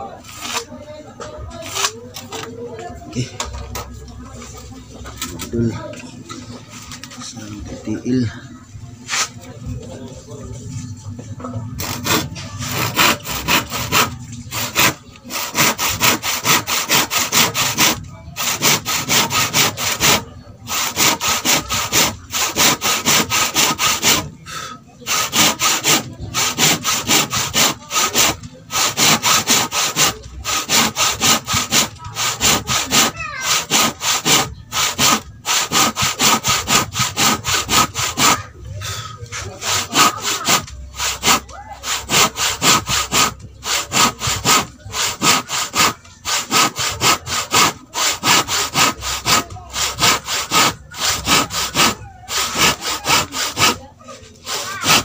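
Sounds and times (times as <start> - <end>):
hand saw cutting wood: 0.2 - 0.8, 1.4 - 2.5, 11.7 - 55.0.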